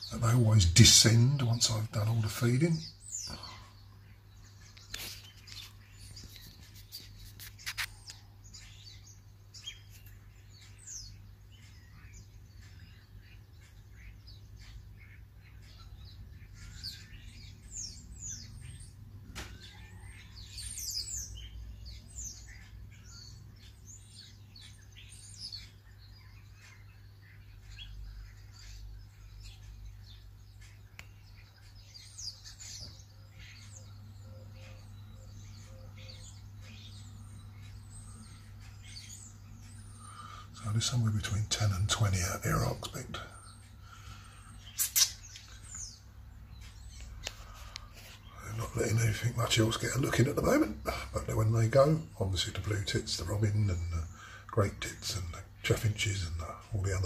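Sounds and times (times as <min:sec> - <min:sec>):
starlings calling: 0:00.0 - 0:57.0.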